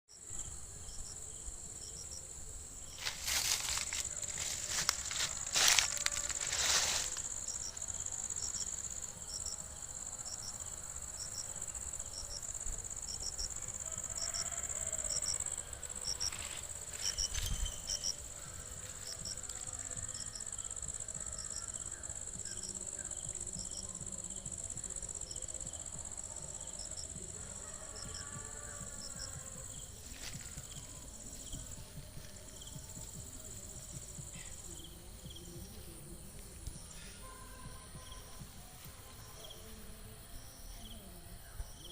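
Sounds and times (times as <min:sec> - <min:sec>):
insect chirp: 0:00.1 - 0:41.9
insects droning: 0:00.1 - 0:41.9.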